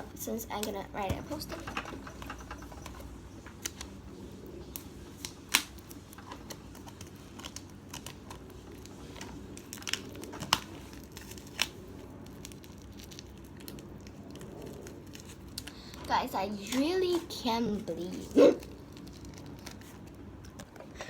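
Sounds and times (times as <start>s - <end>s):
wrapping crinkling and tearing: 2.1s - 21.0s.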